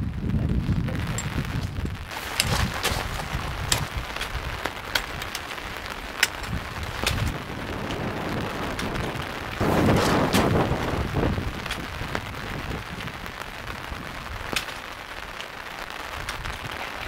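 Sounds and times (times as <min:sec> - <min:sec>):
rain: 0:00.0 - 0:17.0
wind buffeting microphone: 0:00.0 - 0:17.0
tent fly flapping: 0:01.4 - 0:17.0.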